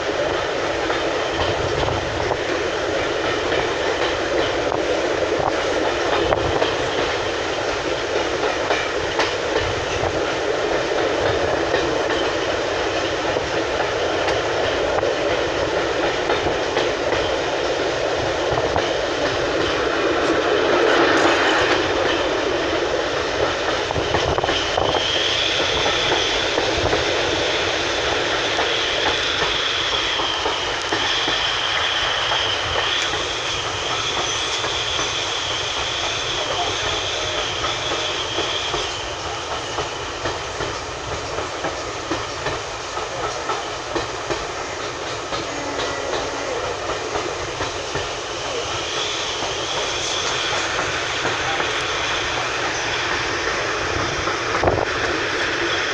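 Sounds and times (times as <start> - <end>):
train coach rumbling on track: 0.0 - 55.9.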